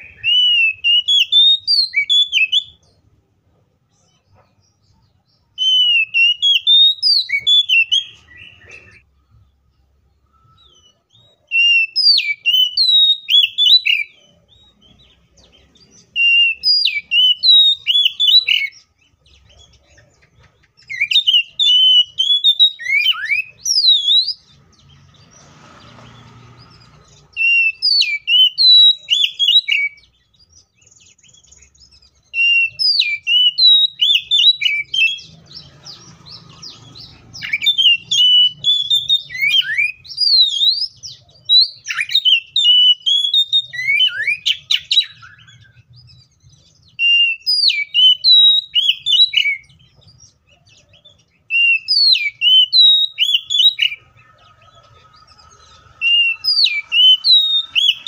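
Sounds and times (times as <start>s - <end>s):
bird singing whistled notes: 0.0s - 3.1s, 3.9s - 58.0s.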